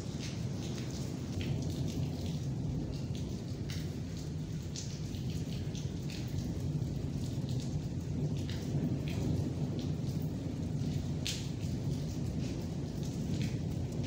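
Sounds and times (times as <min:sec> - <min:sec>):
rain falling on wet paving: 0:00.0 - 0:14.0.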